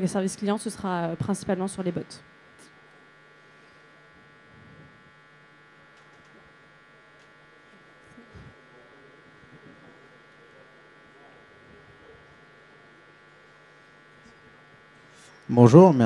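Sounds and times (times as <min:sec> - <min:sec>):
faint electrical buzz: 0:00.0 - 0:16.0.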